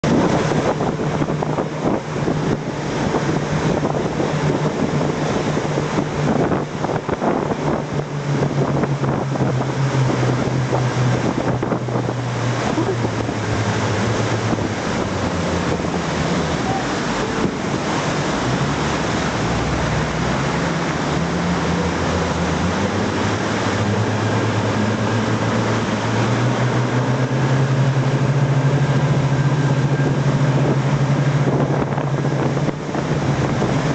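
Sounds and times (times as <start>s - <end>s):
motorboat engine running: 0.0s - 33.9s
rushing water: 0.0s - 33.9s
wind buffeting microphone: 0.0s - 33.9s.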